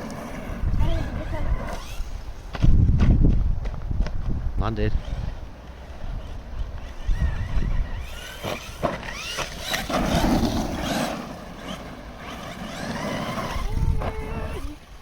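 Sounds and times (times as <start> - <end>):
wind rumble on microphone: 0.0 - 11.0, 11.6 - 15.0
toy truck electric motor whining: 0.1 - 2.4, 4.9 - 15.0.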